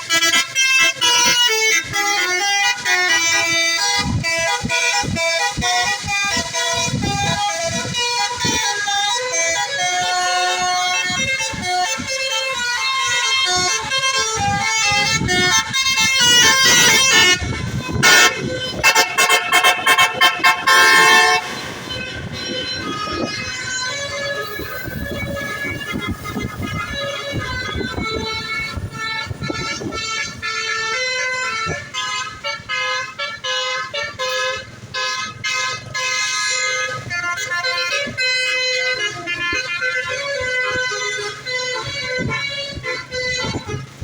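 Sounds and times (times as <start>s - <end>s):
multi-tone musical bus horn: 0.0s - 44.0s
quick on-off horn blasts: 0.1s - 44.0s.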